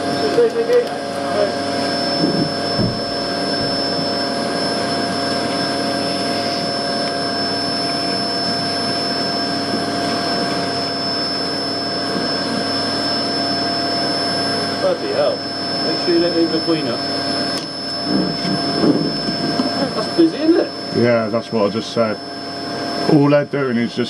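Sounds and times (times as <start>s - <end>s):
vacuum whining: 0.0s - 24.0s.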